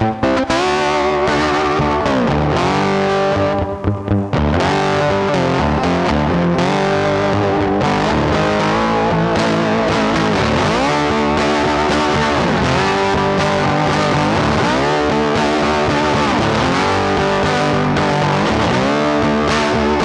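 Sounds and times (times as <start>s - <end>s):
background music with bending lead: 0.0s - 20.0s.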